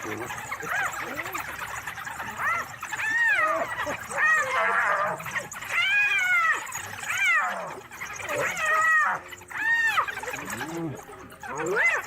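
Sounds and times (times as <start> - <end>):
animal crying in distress: 0.0 - 12.0.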